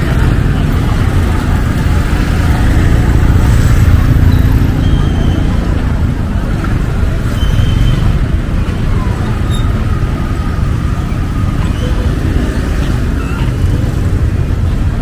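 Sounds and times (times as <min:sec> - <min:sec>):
chatter of vendors and shoppers: 0:00.0 - 0:15.0
traffic and motorbikes rumbling: 0:00.0 - 0:15.0.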